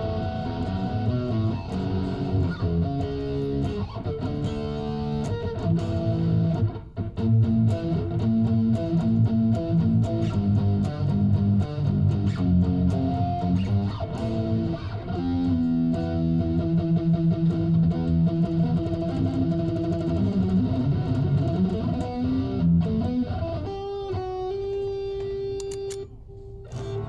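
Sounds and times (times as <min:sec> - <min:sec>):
electric guitar playing: 0:00.0 - 0:27.0.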